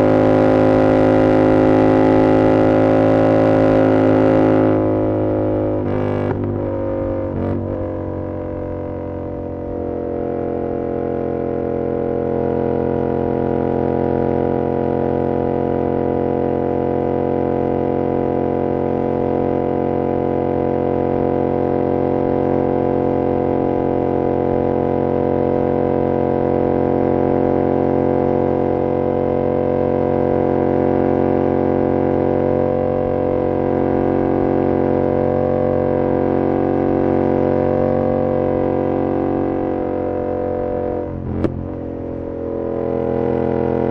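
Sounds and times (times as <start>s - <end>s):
motorcycle engine cruising: 0.0s - 28.7s, 29.4s - 43.9s.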